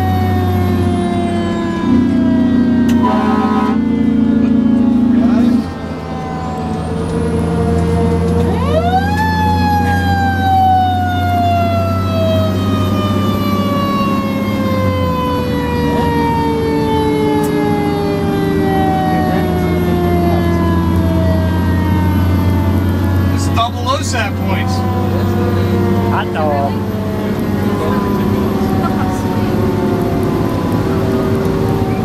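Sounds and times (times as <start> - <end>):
fire engine siren wailing: 0.0 - 32.0
truck engine drone: 0.0 - 32.0.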